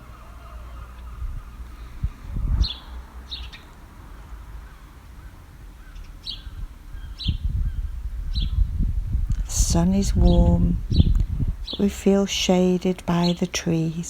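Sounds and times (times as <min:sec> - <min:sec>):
low rumbling noise: 0:00.0 - 0:04.8, 0:05.5 - 0:14.0.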